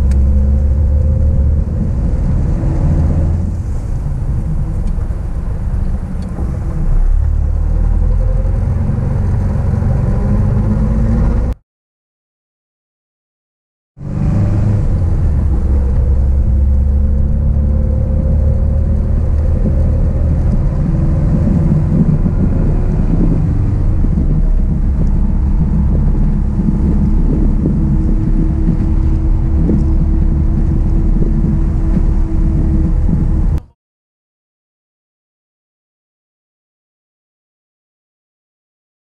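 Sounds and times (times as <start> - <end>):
car engine running: 0.0 - 11.6, 14.0 - 33.7
wind and road noise: 0.0 - 11.6, 14.0 - 33.8.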